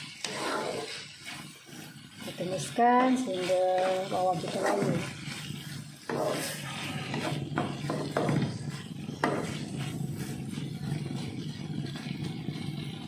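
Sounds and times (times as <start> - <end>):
onions sizzling in oil: 0.0 - 13.0
wooden spatula scraping a wok: 0.0 - 13.0.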